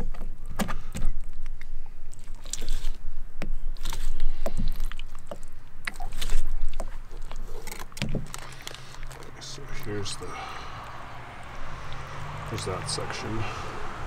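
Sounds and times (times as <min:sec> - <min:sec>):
wet squelching and slapping: 0:00.5 - 0:03.0, 0:03.7 - 0:12.8.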